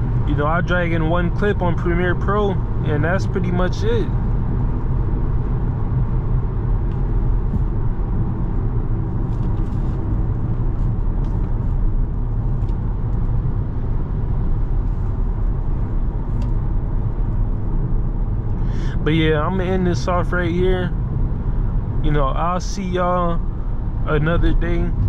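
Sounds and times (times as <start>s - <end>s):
car engine: 0.0s - 25.0s
tyre and road noise: 0.0s - 25.0s.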